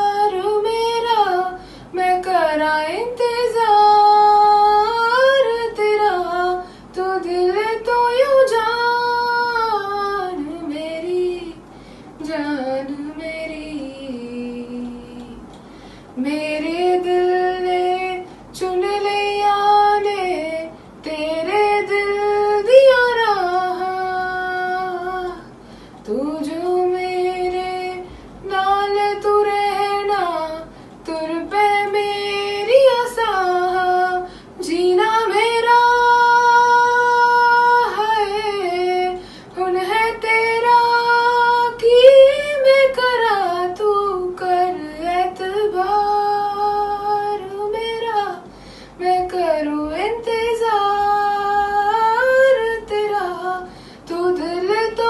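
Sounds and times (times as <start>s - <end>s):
woman singing unaccompanied: 0.0s - 15.6s, 16.2s - 55.0s.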